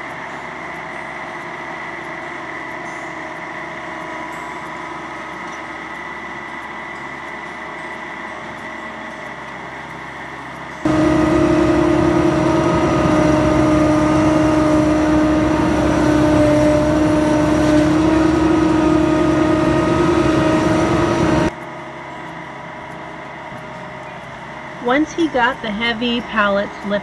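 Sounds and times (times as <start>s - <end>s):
loader engine running: 0.0s - 27.0s.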